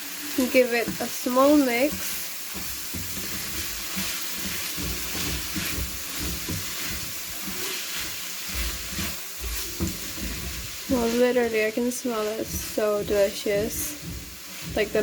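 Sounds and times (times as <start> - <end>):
filling sizzling in a pan: 0.0 - 15.0
utensil scraping and knocking pan: 0.8 - 15.0.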